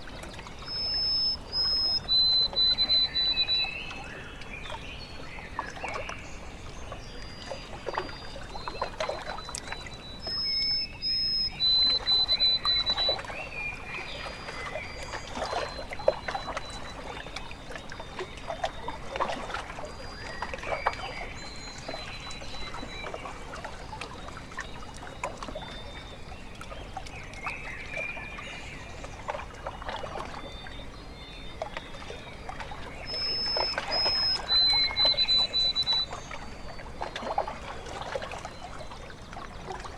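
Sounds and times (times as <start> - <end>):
small waves lapping at shore: 0.0 - 39.9
birds whistling: 0.5 - 6.1, 6.8 - 37.5.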